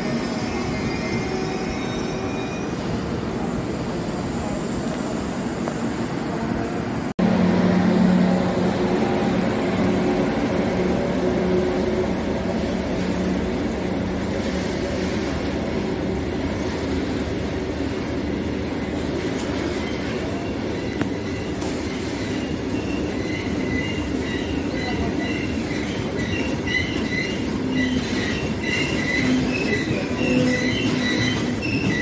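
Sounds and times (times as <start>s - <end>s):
passenger train passing: 0.0s - 32.0s
train wheels rumbling on rails: 0.0s - 32.0s.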